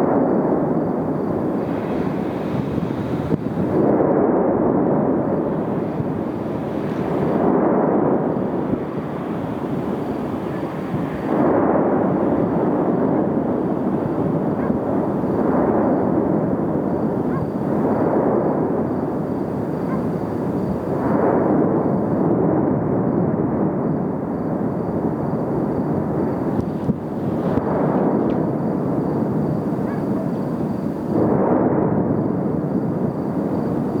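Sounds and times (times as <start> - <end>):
volcano rumbling: 0.0 - 34.0.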